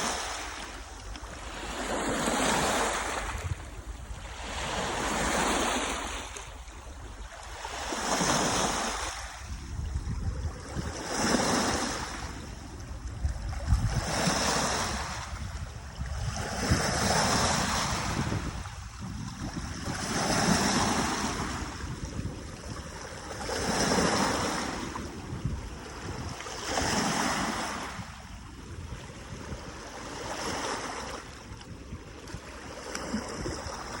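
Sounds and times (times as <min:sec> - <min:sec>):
small waves washing onto shore: 0:00.0 - 0:34.0.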